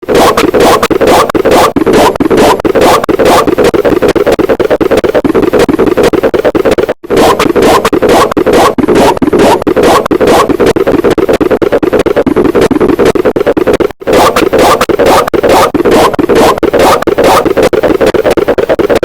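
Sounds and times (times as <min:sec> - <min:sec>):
distorted repeating pulses: 0:00.0 - 0:19.0.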